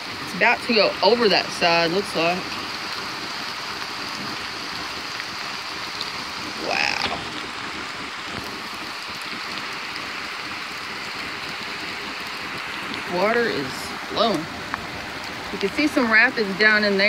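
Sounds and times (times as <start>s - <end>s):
flooded creek rushing: 0.0s - 17.0s
rain falling: 0.0s - 17.0s.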